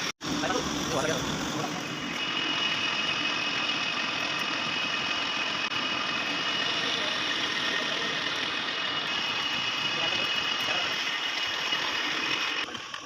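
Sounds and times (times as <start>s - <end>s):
lathe running with high whine: 0.0s - 13.0s.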